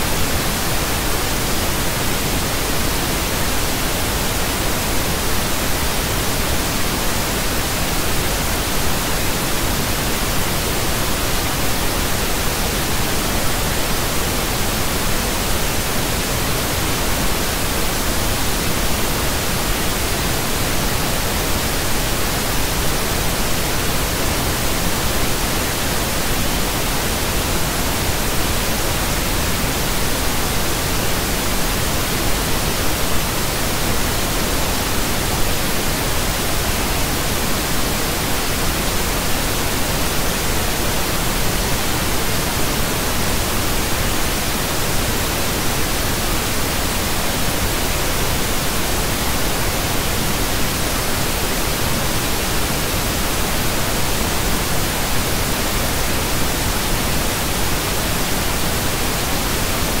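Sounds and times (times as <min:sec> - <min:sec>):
pink noise hiss: 0:00.0 - 1:00.0.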